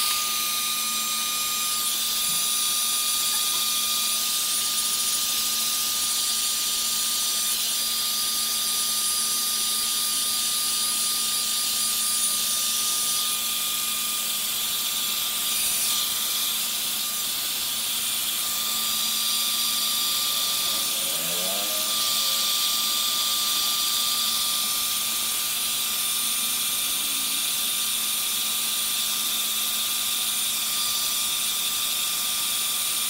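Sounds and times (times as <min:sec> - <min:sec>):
hair dryer running: 0:00.0 - 0:33.0.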